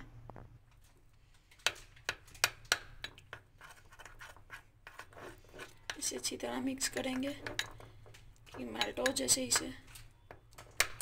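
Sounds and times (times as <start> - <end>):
spoon stirring chocolate in bowl: 1.6 - 11.0.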